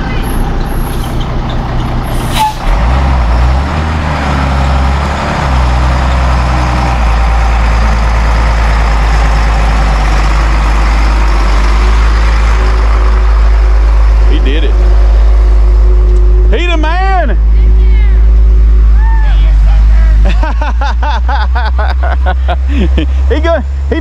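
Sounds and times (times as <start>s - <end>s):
heavy vehicle engine rumbling: 0.0s - 24.0s.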